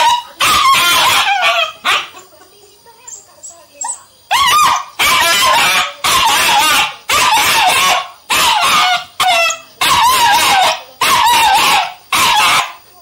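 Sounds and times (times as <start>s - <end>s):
puppy barking: 0.0s - 2.3s, 3.8s - 12.8s.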